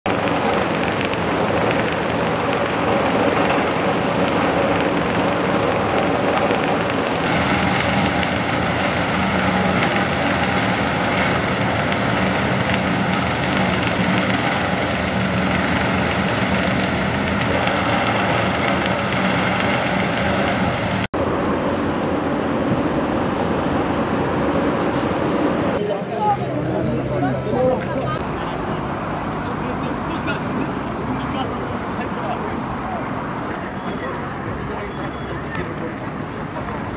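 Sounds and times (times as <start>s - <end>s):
road traffic passing: 0.1s - 36.9s.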